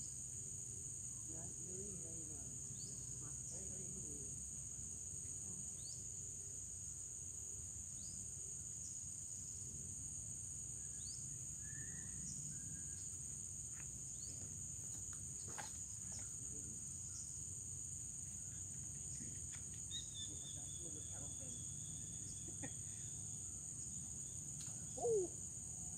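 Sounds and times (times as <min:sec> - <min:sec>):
insects chorus: 0:00.0 - 0:25.9.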